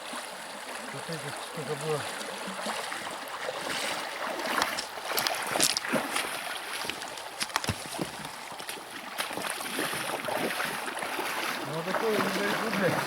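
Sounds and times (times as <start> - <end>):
river water rushing: 0.0 - 13.0
water splashing from wading: 0.0 - 13.0.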